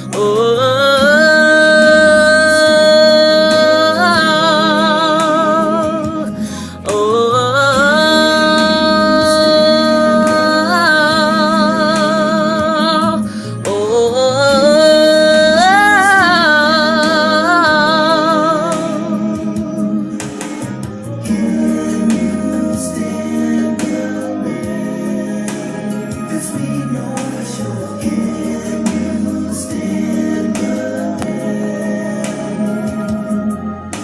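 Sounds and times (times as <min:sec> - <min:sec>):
person singing wordless notes: 0:00.0 - 0:34.0.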